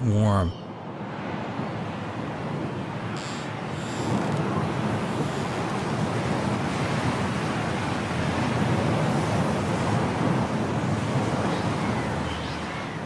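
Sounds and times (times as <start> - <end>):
strong wind blowing: 0.7 - 13.0.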